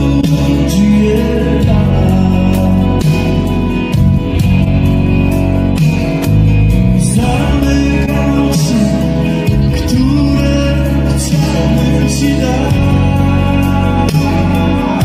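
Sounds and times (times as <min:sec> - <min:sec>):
person singing: 0:00.0 - 0:04.0, 0:06.9 - 0:15.0
live pop-rock band playing: 0:00.0 - 0:15.0.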